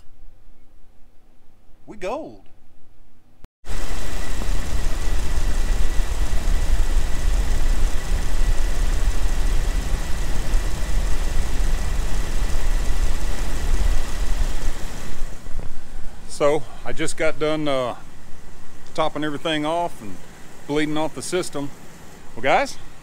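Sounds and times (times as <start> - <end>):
car engine idling: 3.7 - 23.0
cooling fan high whine: 3.7 - 23.0.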